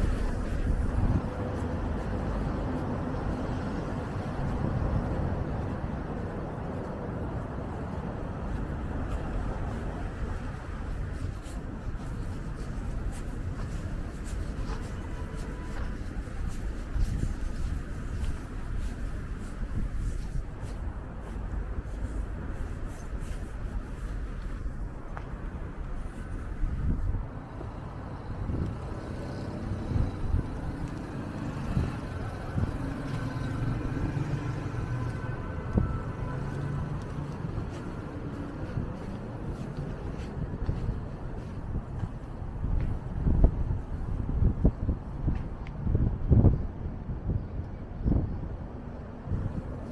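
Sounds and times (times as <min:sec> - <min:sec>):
traffic rumble: 0:00.0 - 0:49.9.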